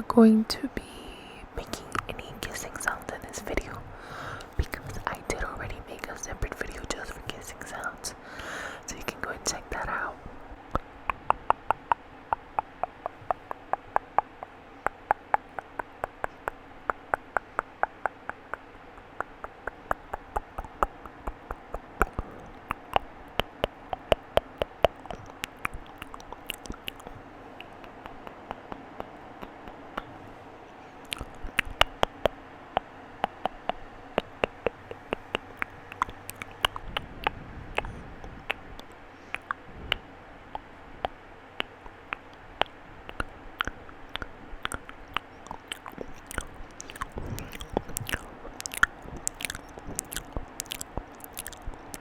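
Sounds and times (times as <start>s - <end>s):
tongue and lip clicks: 1.1s - 52.0s.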